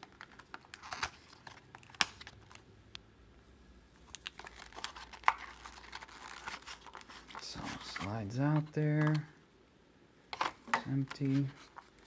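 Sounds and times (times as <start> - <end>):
cardboard packaging clicks and crinkles: 0.0 - 2.7, 4.0 - 9.3, 10.3 - 12.0.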